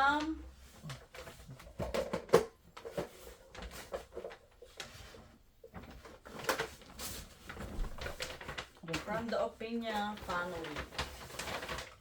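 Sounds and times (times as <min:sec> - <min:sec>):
gift packaging rustling: 0:00.0 - 0:12.0.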